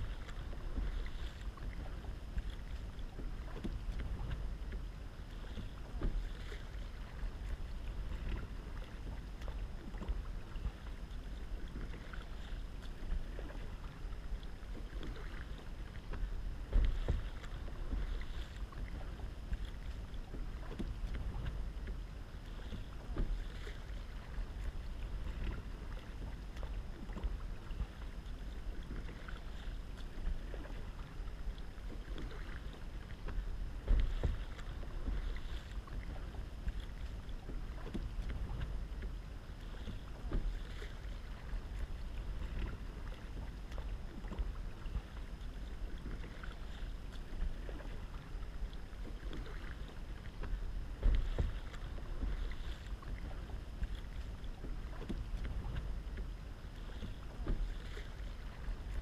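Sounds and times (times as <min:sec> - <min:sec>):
kayak paddle splashing: 0:00.0 - 0:59.0
wind rumble on microphone: 0:00.0 - 0:59.0.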